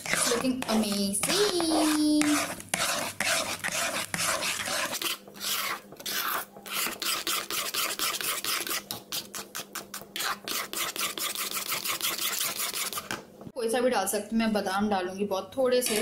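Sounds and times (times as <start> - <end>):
spatula scraping a pan: 0.0 - 13.2.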